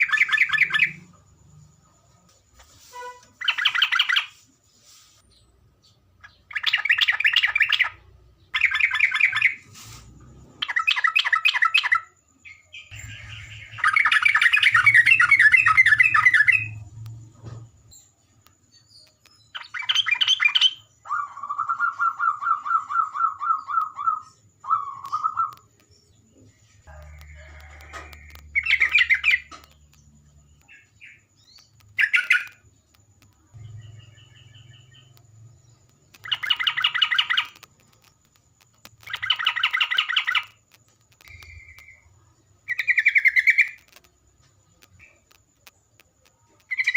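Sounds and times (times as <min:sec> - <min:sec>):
bird singing: 0:00.0 - 0:04.4, 0:05.2 - 0:46.9.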